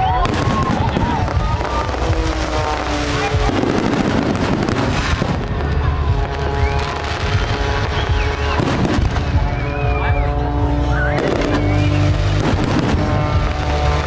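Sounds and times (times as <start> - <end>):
fireworks booming: 0.0 - 14.0
music with long held notes: 0.0 - 14.0.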